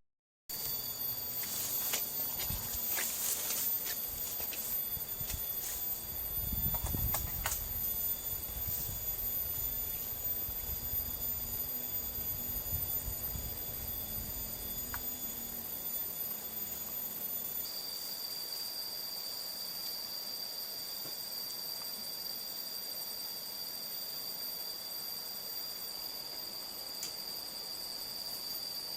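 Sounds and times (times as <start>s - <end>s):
insects chirring: 0.5s - 28.9s.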